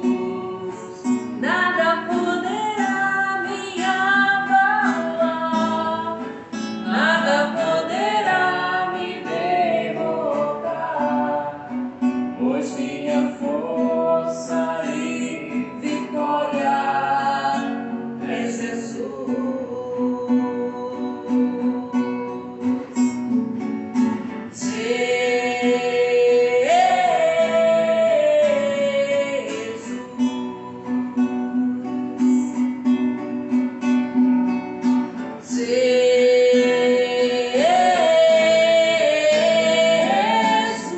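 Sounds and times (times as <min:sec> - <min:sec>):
woman singing: 0:00.0 - 0:23.4, 0:24.5 - 0:32.8, 0:35.3 - 0:40.9
acoustic guitar: 0:00.0 - 0:40.9.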